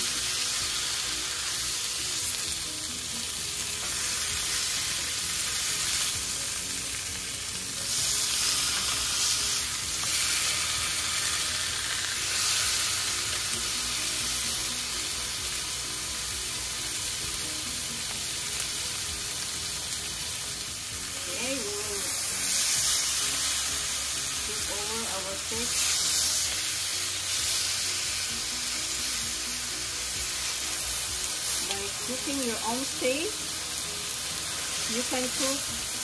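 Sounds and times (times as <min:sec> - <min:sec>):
steak sizzling in a pan: 0:00.0 - 0:36.0.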